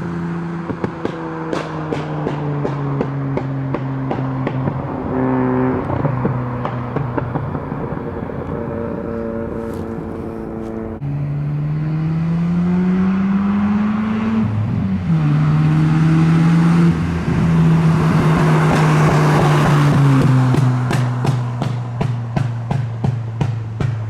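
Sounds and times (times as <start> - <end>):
rotary engine revving: 3.4 - 23.2.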